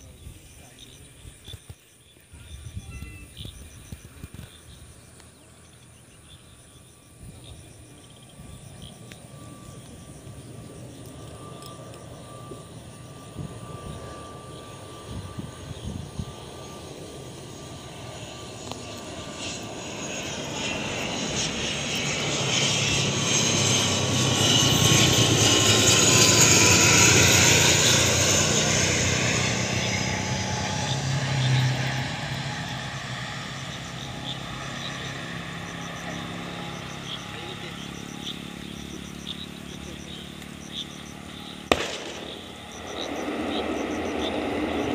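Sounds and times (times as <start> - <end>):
turboprop airliner flying past: 0.0 - 44.9.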